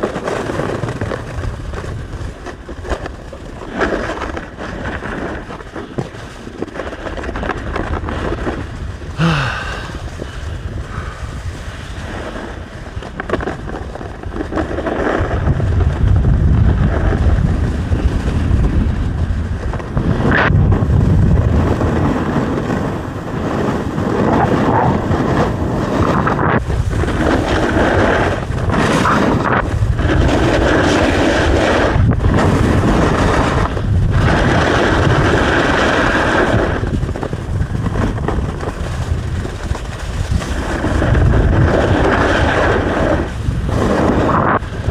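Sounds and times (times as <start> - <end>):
sliding on icy snow: 0.0 - 44.9
wind buffeting microphone: 0.0 - 44.9.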